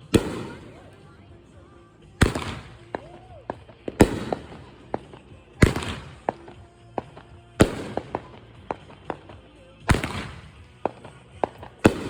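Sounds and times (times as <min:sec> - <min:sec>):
firework pops and crackles: 0:00.0 - 0:01.1, 0:02.2 - 0:12.0
fireworks booming: 0:00.0 - 0:01.2, 0:02.2 - 0:12.0.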